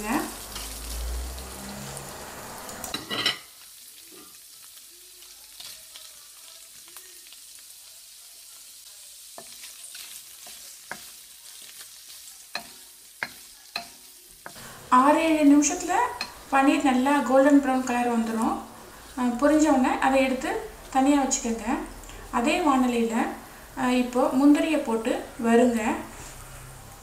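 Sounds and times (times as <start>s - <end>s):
cheese sizzling in hot oil: 0.0s - 27.0s.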